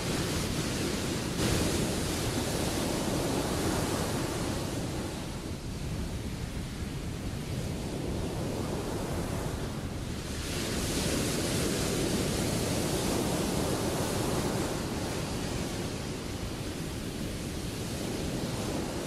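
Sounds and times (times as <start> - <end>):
ocean waves breaking: 0.0 - 6.4, 7.5 - 19.0.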